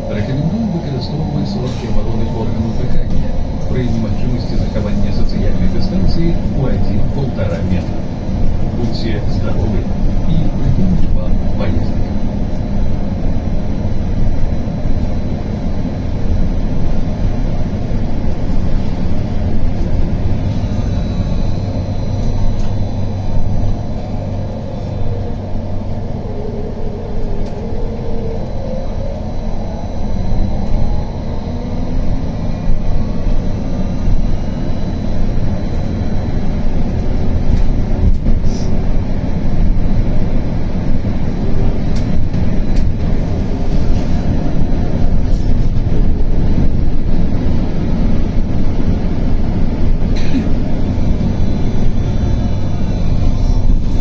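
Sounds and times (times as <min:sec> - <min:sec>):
electric traction drive whine: 0:00.0 - 0:54.0
road and running-gear rumble: 0:00.0 - 0:54.0.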